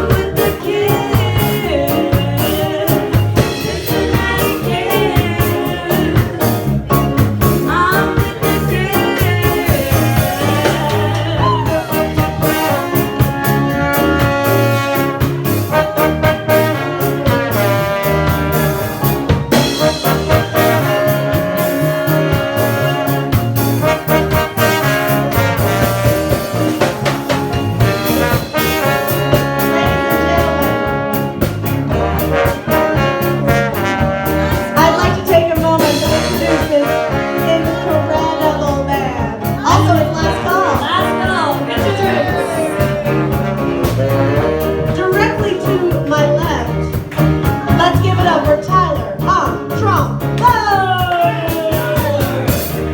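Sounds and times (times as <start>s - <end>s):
live band playing upbeat music: 0.0s - 52.9s
steady drum beat: 0.0s - 52.9s.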